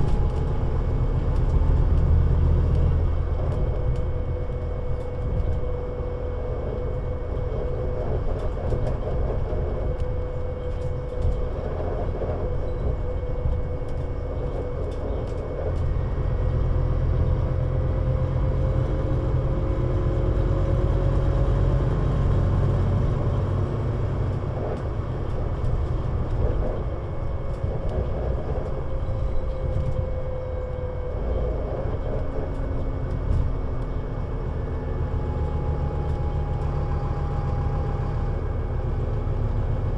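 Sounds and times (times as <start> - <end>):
bus engine rumbling with whine: 0.0 - 39.9.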